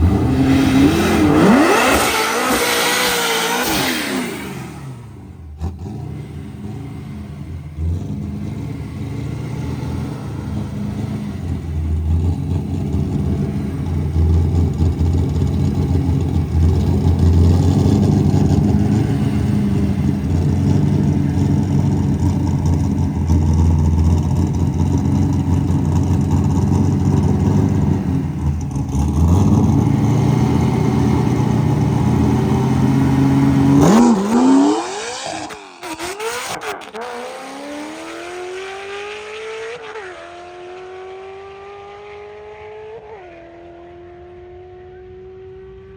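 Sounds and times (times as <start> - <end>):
car engine revving high: 0.0 - 45.9.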